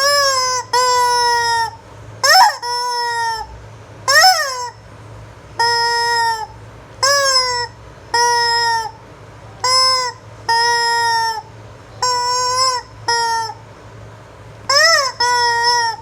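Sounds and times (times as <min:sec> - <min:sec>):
rubber chicken toy honking: 0:00.0 - 0:03.5, 0:04.1 - 0:04.8, 0:05.6 - 0:09.0, 0:09.6 - 0:13.6, 0:14.7 - 0:16.0.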